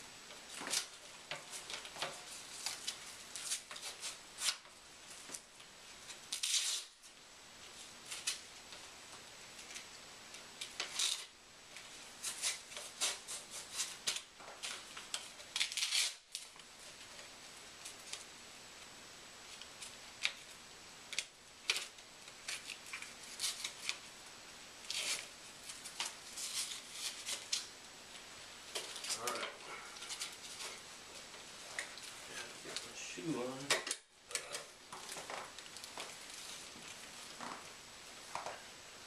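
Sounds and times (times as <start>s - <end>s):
straps scratching and rustling: 0.3s - 18.3s, 19.4s - 24.2s, 24.8s - 33.7s, 34.3s - 38.7s.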